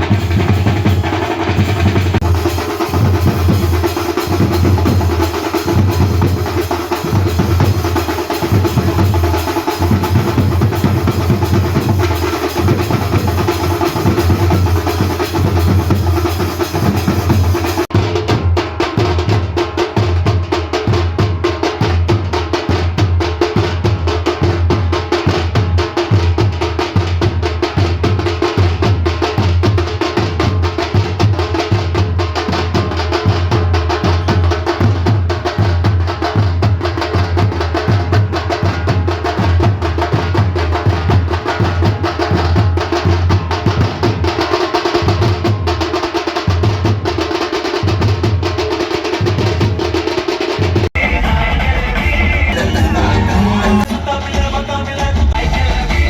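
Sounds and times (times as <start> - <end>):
fast continuous drumming: 0.0 - 56.0.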